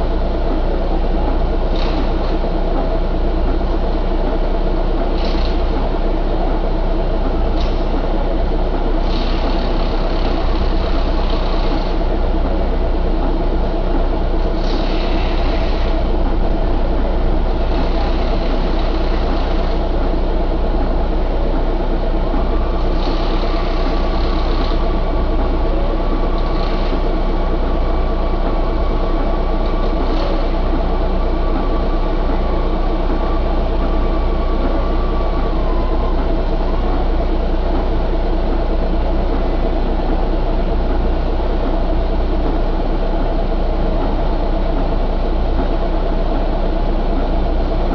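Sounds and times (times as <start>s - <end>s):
diesel engine running: 0.0s - 47.9s
thin steady whine: 0.0s - 47.9s.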